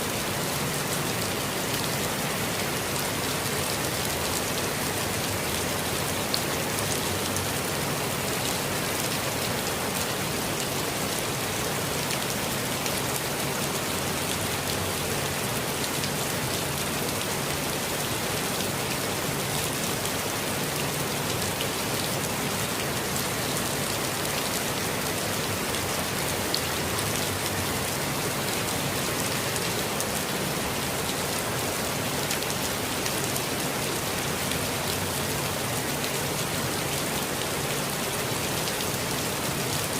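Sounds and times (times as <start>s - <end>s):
rain pattering in a forest: 0.0s - 39.9s.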